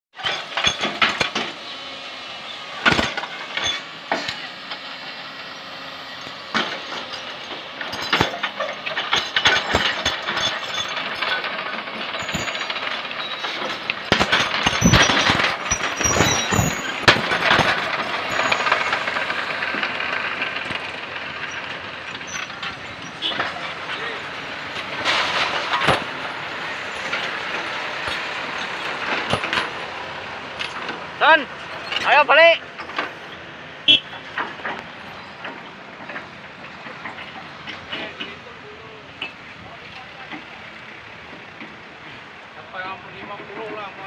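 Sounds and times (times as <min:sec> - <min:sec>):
car rumbling over rough track: 0:00.2 - 0:44.0.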